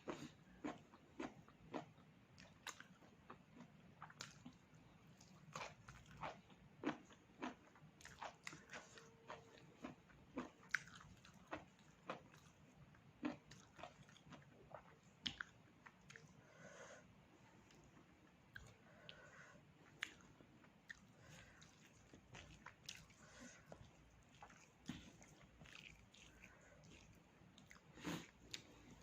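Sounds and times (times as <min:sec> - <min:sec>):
person chewing: 0:00.0 - 0:16.4, 0:17.6 - 0:18.8, 0:19.8 - 0:29.0.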